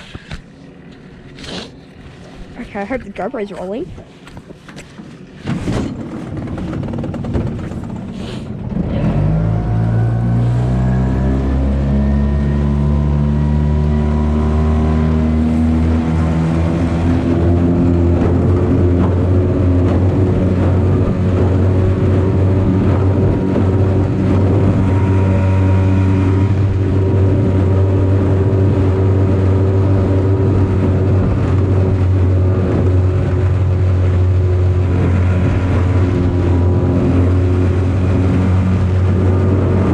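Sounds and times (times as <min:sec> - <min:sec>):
outboard motor revving: 0:05.0 - 0:39.9.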